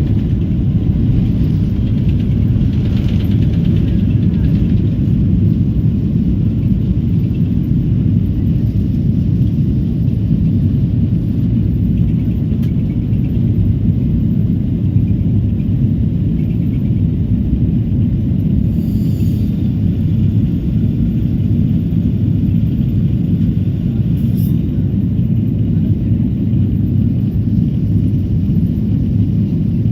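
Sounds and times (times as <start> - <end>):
airplane cabin engine rumble: 0.0 - 29.9.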